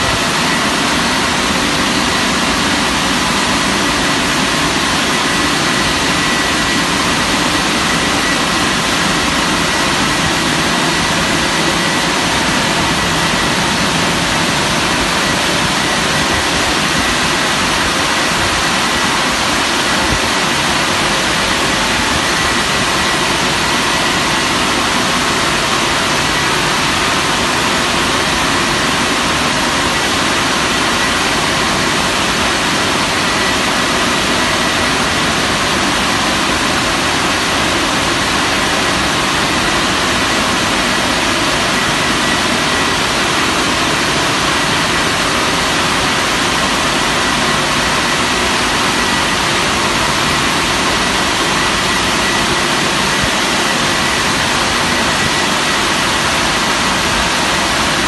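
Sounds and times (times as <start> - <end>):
car wash rushing air or water: 0.0 - 58.0.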